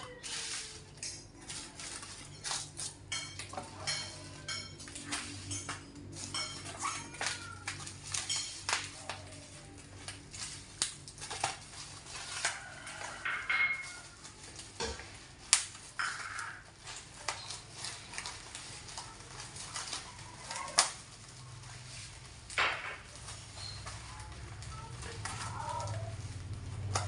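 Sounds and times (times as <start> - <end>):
bubble wrap crinkling: 0.0 - 27.0.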